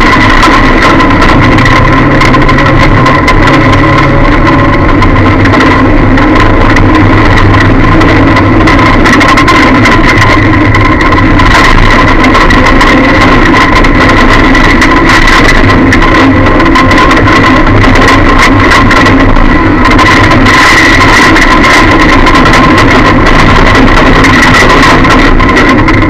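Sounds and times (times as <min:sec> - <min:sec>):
high whine: 0:00.0 - 0:26.0
loud distorted car engine: 0:00.0 - 0:26.0
rattling: 0:00.0 - 0:26.0.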